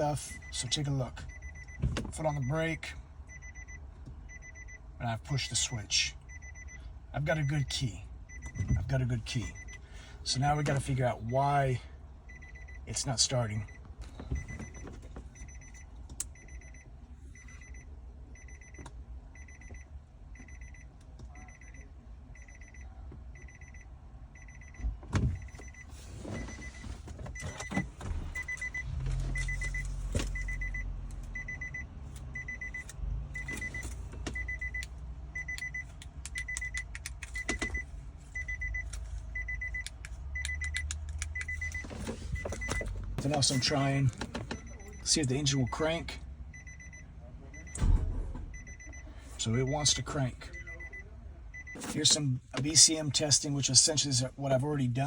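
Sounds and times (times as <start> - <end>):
car warning chime beeping: 0.0 - 55.0.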